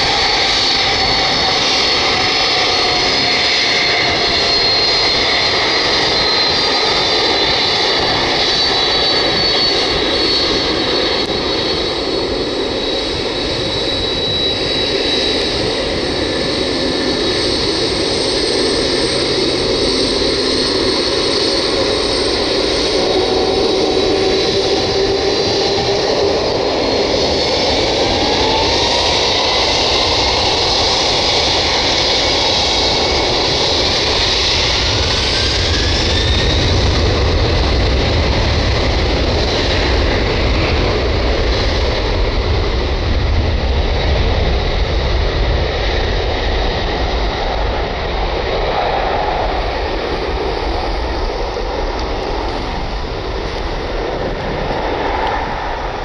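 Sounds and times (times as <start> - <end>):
deep rumble of aircraft: 0.0 - 56.0
jet engines whining and roaring: 0.0 - 56.0.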